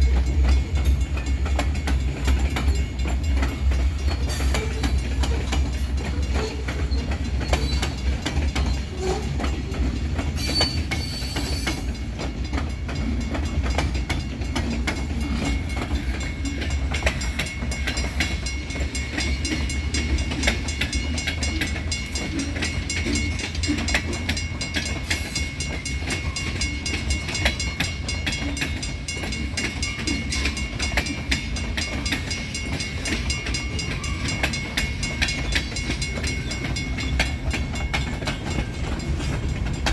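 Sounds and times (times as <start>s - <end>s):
train rumbling past: 0.0s - 39.9s
wheels clacking over rail joints: 0.0s - 39.9s.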